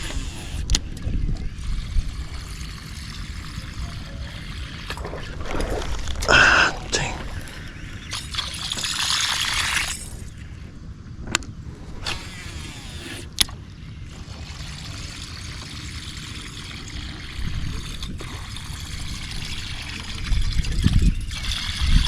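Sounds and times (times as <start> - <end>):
water trickling and splashing: 0.0 - 10.7, 11.7 - 22.0.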